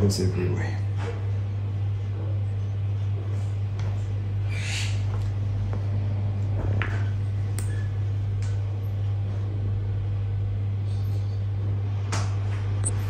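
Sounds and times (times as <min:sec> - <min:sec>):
equipment humming: 0:00.0 - 0:13.0.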